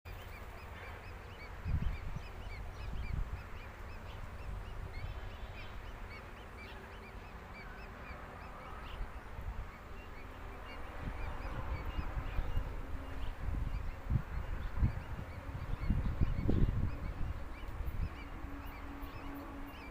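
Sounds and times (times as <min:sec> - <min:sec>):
low rumble of wind: 0:00.1 - 0:19.9
small birds chirping: 0:00.1 - 0:19.9.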